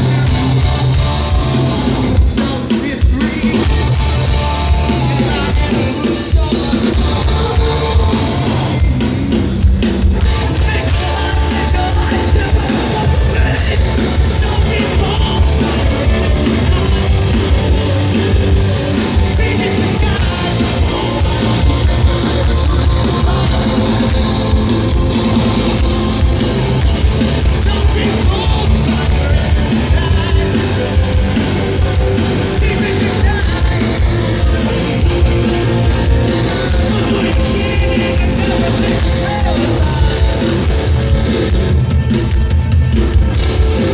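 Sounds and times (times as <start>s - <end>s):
bass guitar: 0.0s - 43.9s
distorted electric guitars: 0.0s - 43.9s
pounding drums: 0.0s - 43.9s.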